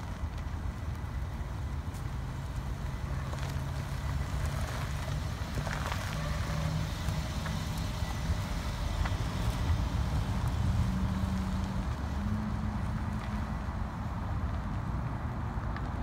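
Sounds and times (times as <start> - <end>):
car engine running at low speed: 0.0 - 16.0.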